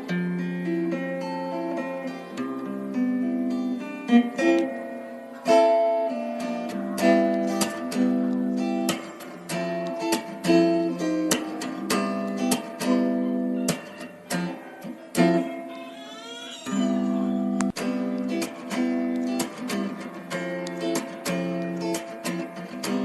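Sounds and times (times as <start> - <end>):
acoustic guitar picking: 0.0 - 23.0.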